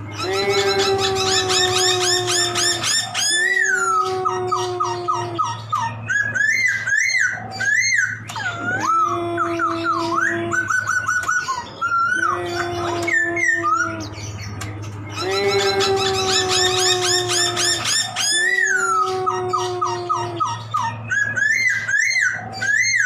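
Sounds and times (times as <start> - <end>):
bird song with whistled phrases: 0.0 - 23.0.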